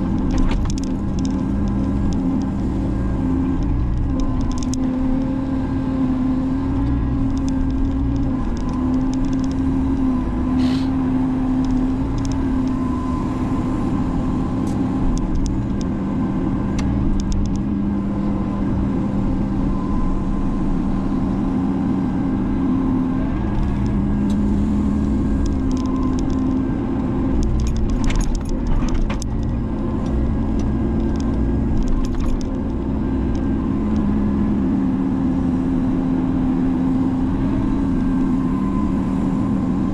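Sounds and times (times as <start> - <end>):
excavator engine and hydraulic drone: 0.0 - 39.9.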